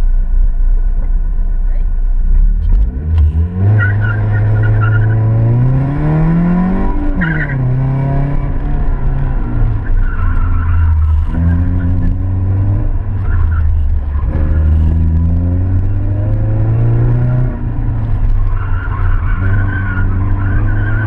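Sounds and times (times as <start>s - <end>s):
car engine revving: 1.7s - 21.0s.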